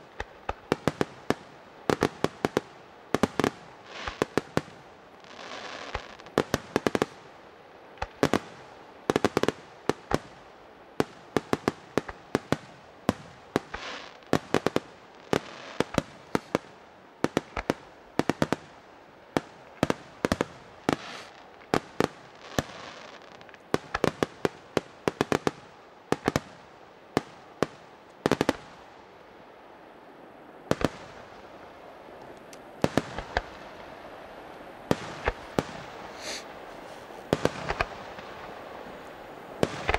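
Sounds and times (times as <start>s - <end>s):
fireworks bursting with sharp bangs: 0.0s - 29.0s, 30.6s - 39.9s.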